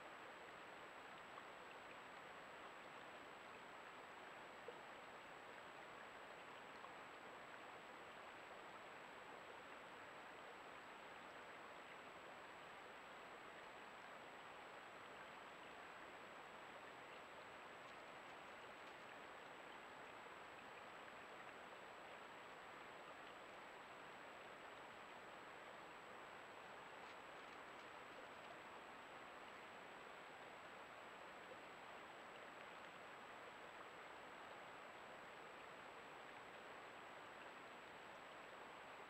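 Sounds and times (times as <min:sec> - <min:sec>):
faint high-pitched whine: 0:00.0 - 0:39.0
microphone hiss: 0:00.0 - 0:39.0.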